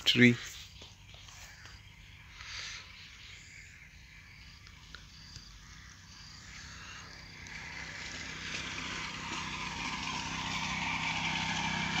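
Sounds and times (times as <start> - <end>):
vehicle engine approaching: 0.0 - 12.0.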